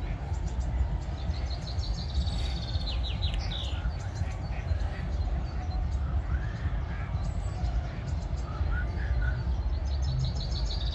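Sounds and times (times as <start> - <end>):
wind buffeting microphone: 0.0 - 10.9
songbird trilling and chirping: 0.3 - 10.9.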